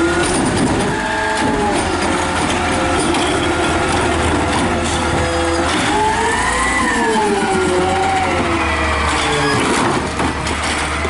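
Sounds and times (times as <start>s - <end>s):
garbage truck engine humming: 0.0s - 11.0s.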